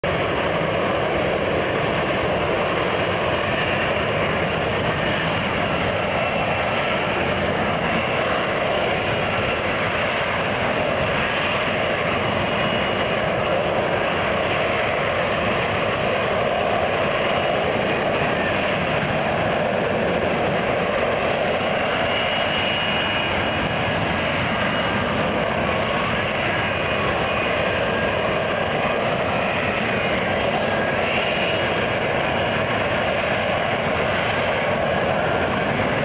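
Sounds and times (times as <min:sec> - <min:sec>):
loud rushing jet noise: 0:00.0 - 0:36.0.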